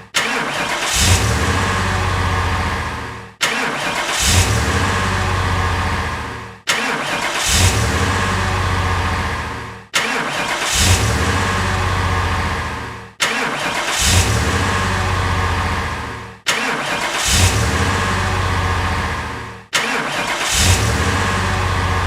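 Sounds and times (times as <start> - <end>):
car engine surging: 0.0 - 22.0.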